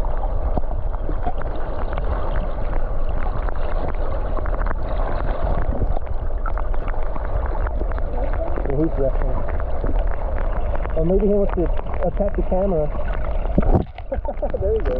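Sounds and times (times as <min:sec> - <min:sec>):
small water splashes: 0:00.0 - 0:14.9.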